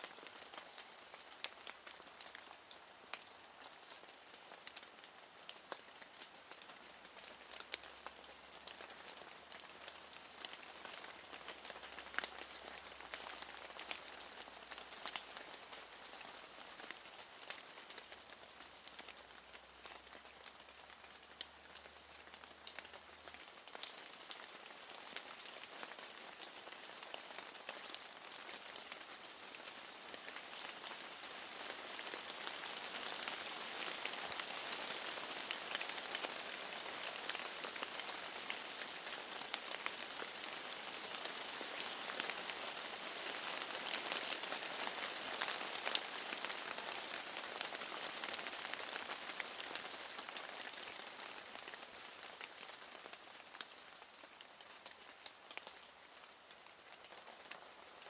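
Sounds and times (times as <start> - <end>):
rain ticking on a window: 0.0 - 58.0.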